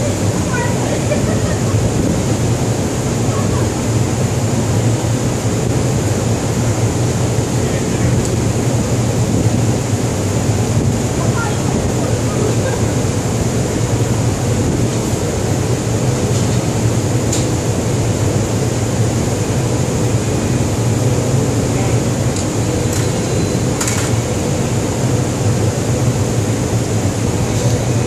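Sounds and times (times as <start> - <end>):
ship machinery humming: 0.0 - 28.0.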